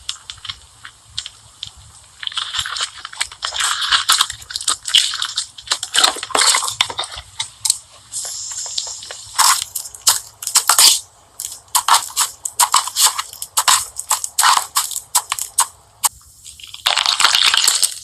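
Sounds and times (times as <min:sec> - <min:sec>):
slime crackling and popping: 0:00.0 - 0:18.0.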